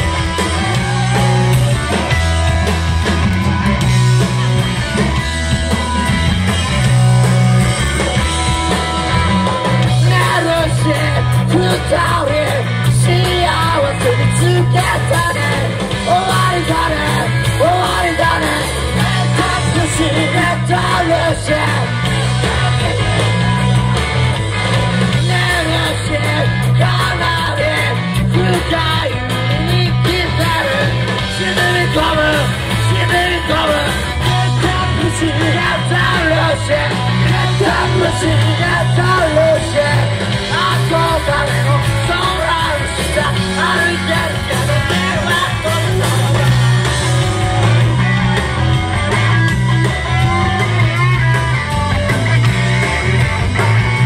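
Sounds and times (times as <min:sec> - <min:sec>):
person singing and yelling: 0:00.0 - 0:02.7, 0:09.0 - 0:23.6, 0:25.0 - 0:52.2
bass guitar: 0:00.0 - 0:54.0
drums: 0:00.0 - 0:54.0
electric guitars: 0:00.0 - 0:54.0.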